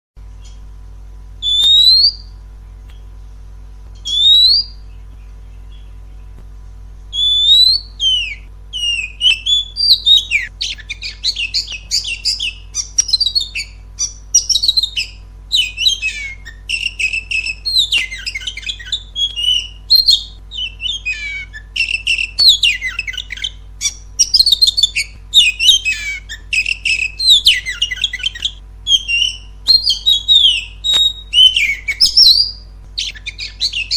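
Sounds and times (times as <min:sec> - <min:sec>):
low hum: 0:00.2 - 0:33.9
bird whistling song: 0:01.4 - 0:03.1, 0:03.9 - 0:06.4, 0:07.1 - 0:33.9.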